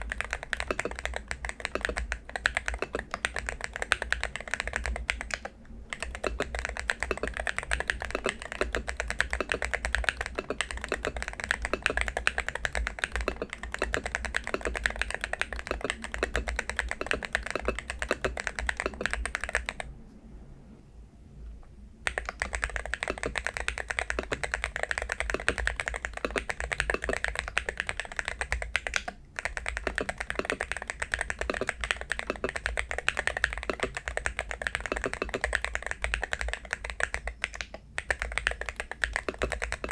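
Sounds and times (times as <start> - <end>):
fast keyboard typing: 0.0 - 19.9, 22.0 - 39.9.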